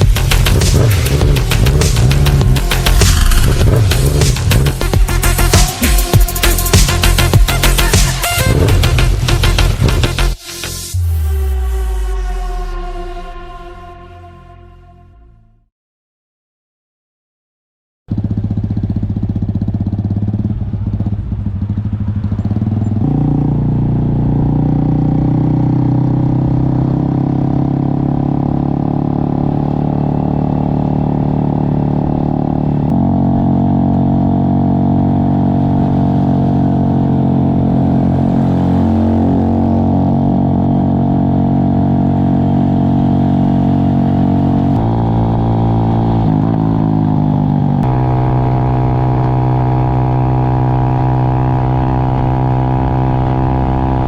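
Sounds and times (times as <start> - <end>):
motorcycle engine running: 0.0 - 11.0, 18.1 - 54.0.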